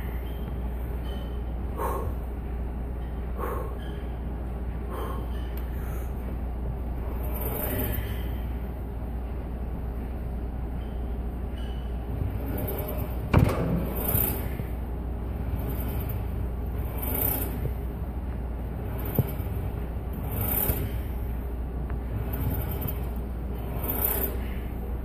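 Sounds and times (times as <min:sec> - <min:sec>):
air handling hum: 0:00.0 - 0:25.0.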